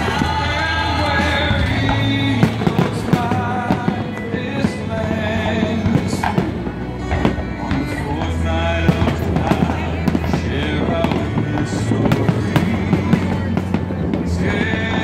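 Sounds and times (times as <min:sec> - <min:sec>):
deep rumble: 0:00.0 - 0:15.0
fireworks bursting: 0:00.0 - 0:15.0
music playing: 0:00.0 - 0:15.0.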